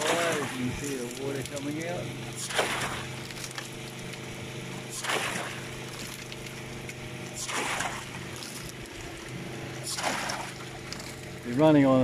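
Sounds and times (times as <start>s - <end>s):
water gushing and splashing: 0.0s - 11.6s
steady low hum: 0.0s - 12.0s.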